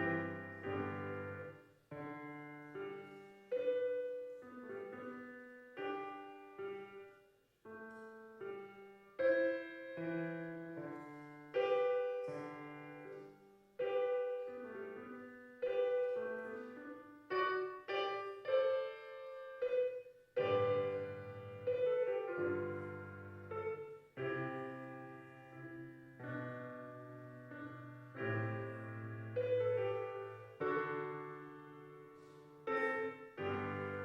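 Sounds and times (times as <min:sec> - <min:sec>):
solo piano slow melody: 0:00.0 - 0:34.0.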